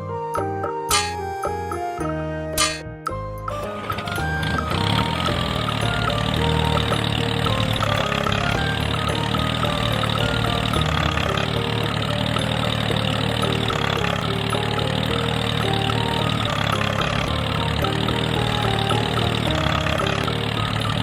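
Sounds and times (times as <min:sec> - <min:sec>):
small engine idling: 0:03.5 - 0:21.0.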